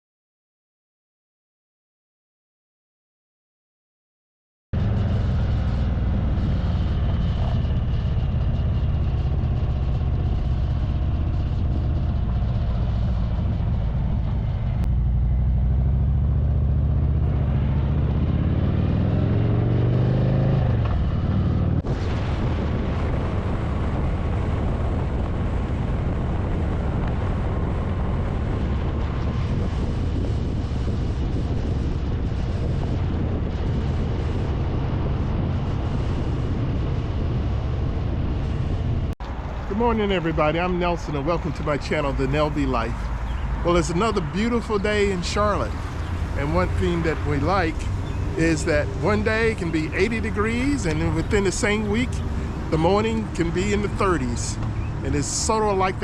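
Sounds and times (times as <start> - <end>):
motorcycle engine running: 4.8 - 39.1, 42.4 - 56.0
wind rushing over microphone: 4.8 - 56.0.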